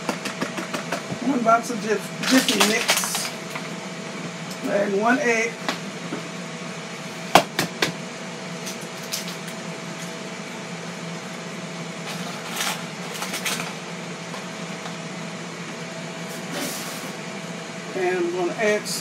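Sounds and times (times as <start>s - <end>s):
grill fan hum: 0.0s - 19.0s.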